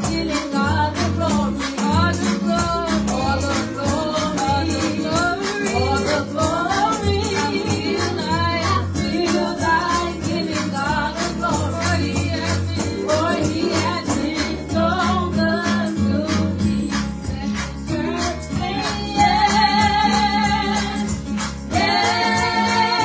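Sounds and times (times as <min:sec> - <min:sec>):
backing music with bass: 0:00.0 - 0:23.0
rattling beat: 0:00.0 - 0:23.0
women singing gospel: 0:00.0 - 0:23.0.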